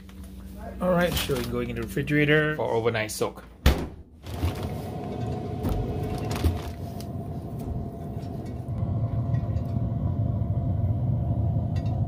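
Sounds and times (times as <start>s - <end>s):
smoker humming and rumbling: 0.0s - 3.3s, 4.2s - 12.0s.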